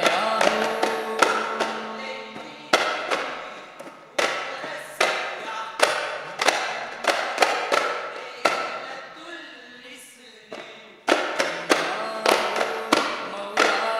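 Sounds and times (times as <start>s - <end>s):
frame drums struck in unison: 0.0s - 8.8s, 11.1s - 13.9s.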